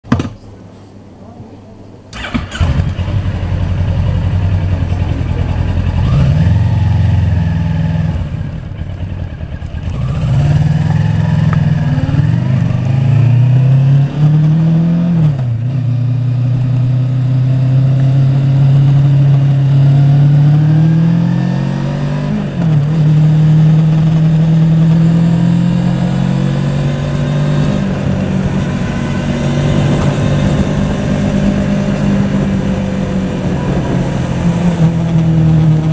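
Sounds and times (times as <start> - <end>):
motorcycle engine revving: 2.1 - 35.9.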